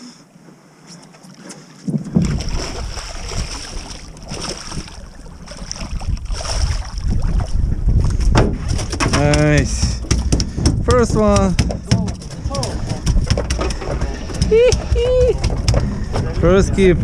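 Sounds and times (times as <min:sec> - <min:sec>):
water splashing: 0:00.9 - 0:17.0
wind buffeting microphone: 0:01.8 - 0:17.0.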